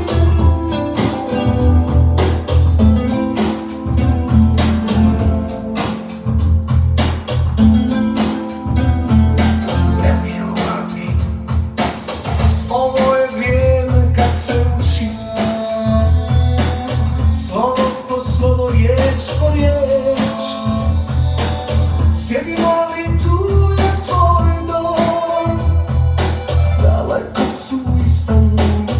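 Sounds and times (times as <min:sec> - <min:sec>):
person singing: 0:00.0 - 0:06.3, 0:07.8 - 0:11.6, 0:12.7 - 0:28.9
heavy bass beat: 0:00.0 - 0:28.9
organ: 0:00.0 - 0:28.9.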